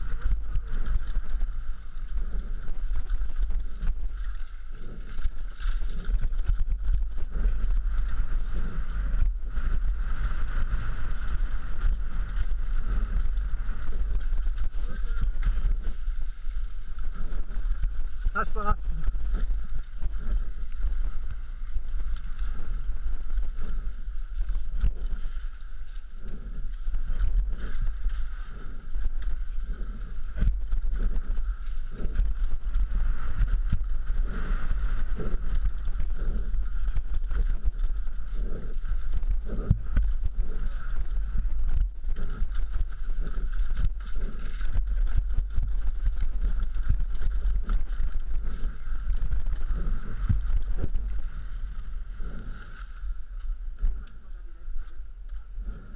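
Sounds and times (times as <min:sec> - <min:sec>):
wind rumbling on microphone: 0:00.0 - 0:55.9.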